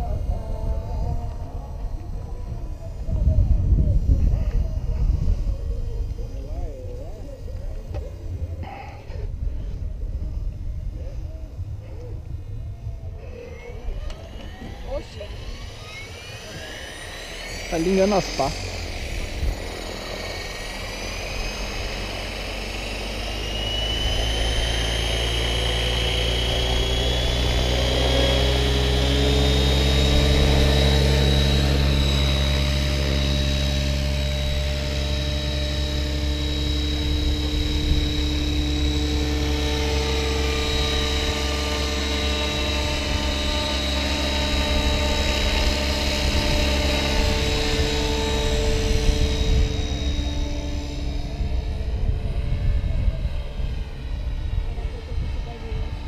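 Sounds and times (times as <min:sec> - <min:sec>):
electric helicopter motor whine: 0:00.0 - 0:56.0
helicopter rotor: 0:00.0 - 0:56.0.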